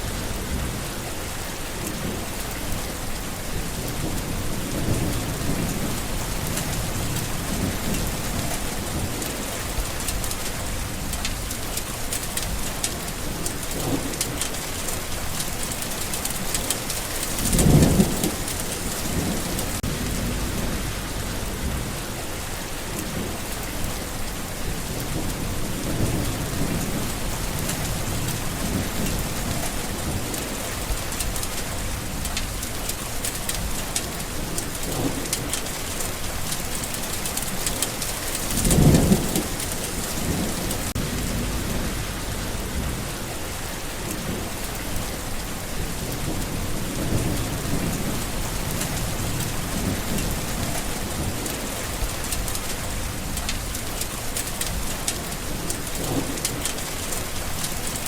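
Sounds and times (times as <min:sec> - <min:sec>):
steady rain falling: 0:00.0 - 0:58.0
thunder rumbling: 0:02.0 - 0:11.8, 0:12.4 - 0:58.0.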